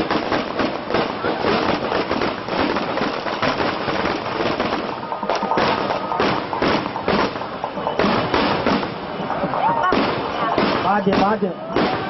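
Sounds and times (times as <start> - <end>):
firecracker bangs: 0.0 - 12.0
firecrackers popping: 0.0 - 12.0.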